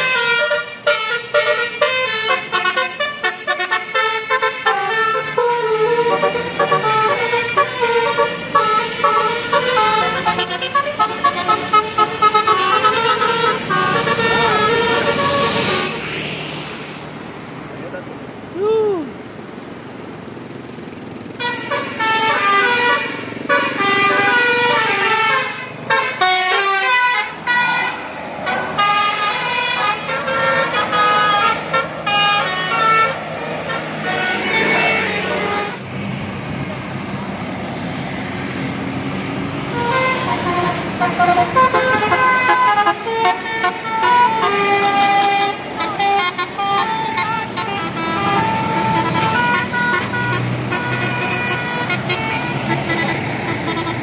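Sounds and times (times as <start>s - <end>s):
vehicle horns honking: 0.0s - 16.0s, 21.4s - 35.9s, 39.7s - 54.0s
hum of engines: 0.0s - 54.0s.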